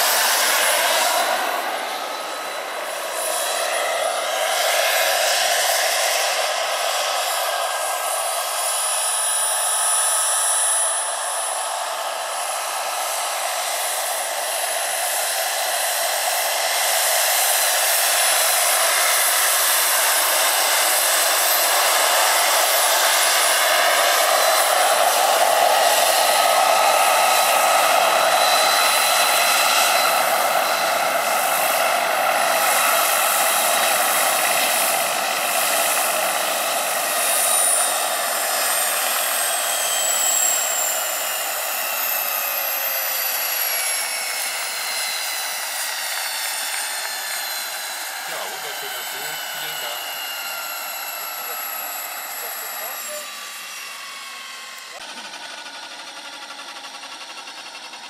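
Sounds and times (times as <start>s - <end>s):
gas turbine whine: 0.0s - 58.0s
helicopter rotor rushing: 0.0s - 58.0s.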